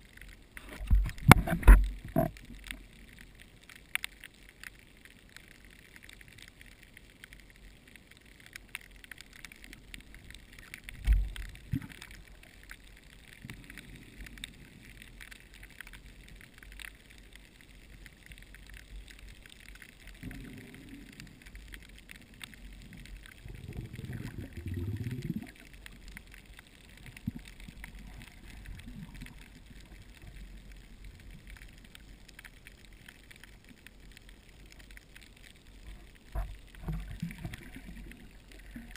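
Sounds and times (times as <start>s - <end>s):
underwater crackle of clicks: 0.0s - 38.9s.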